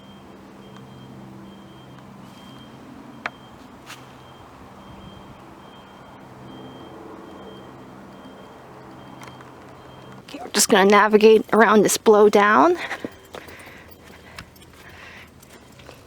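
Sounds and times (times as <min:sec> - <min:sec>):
engine low hum: 0:00.0 - 0:16.0
truck reversing alarm beeping: 0:00.0 - 0:16.0.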